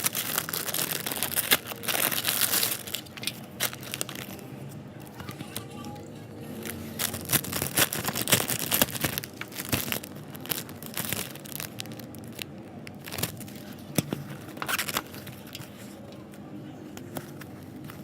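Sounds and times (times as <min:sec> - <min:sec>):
packaging crinkling and tearing: 0:00.0 - 0:16.4.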